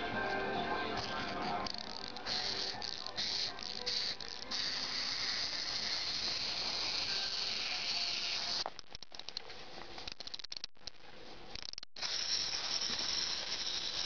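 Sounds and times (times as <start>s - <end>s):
plastic gear ratcheting rasp: 0.9s - 9.4s, 10.1s - 14.0s.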